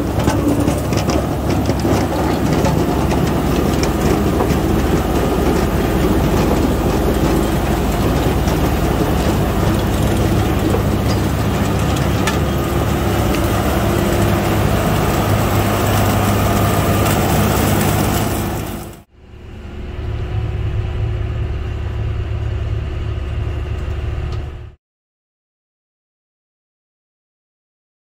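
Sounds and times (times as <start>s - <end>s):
tractor engine under load: 0.0s - 24.8s.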